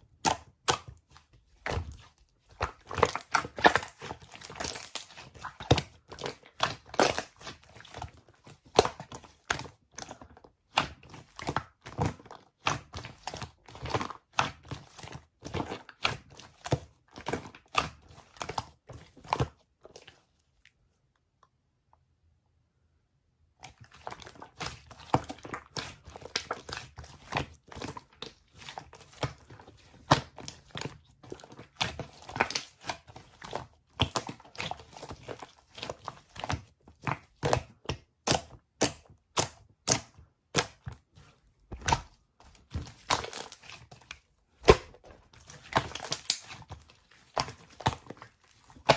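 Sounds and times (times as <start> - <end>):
crunching and crinkling: 0.0 - 20.8, 23.6 - 48.9.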